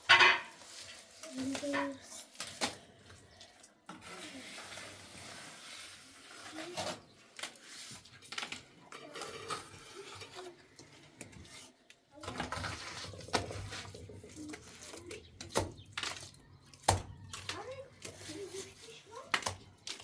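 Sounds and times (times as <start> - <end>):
hard objects clinking and scraping: 0.0 - 20.0.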